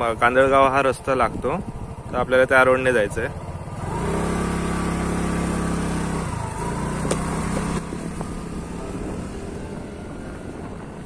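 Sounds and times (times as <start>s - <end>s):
road and wind noise: 0.0s - 11.0s
motor scooter engine pulling away: 0.3s - 11.0s.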